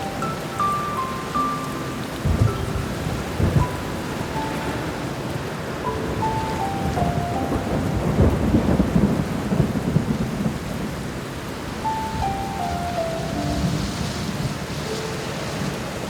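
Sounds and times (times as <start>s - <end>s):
soft piano notes: 0.0s - 9.8s, 11.8s - 16.0s
steady rain: 0.0s - 16.0s
thunder rumbling: 0.0s - 16.0s.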